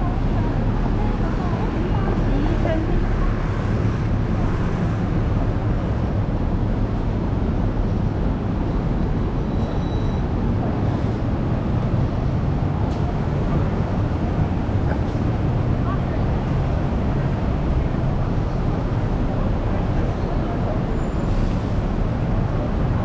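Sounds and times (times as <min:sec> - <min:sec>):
city street traffic rumble: 0:00.0 - 0:23.0.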